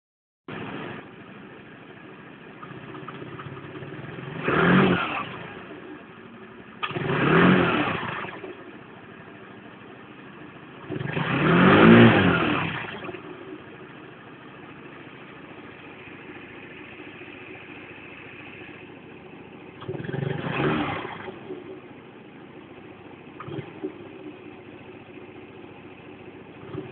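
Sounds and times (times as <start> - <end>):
scooter engine idling and revving: 0.5 - 26.9.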